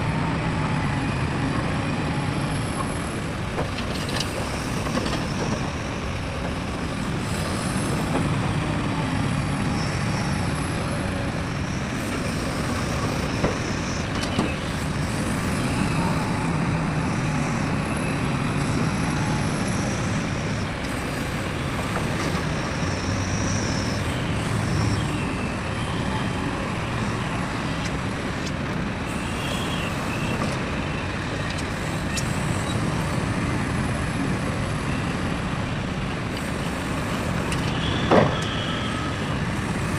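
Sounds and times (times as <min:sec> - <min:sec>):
excavator diesel machinery: 0:00.0 - 0:39.9.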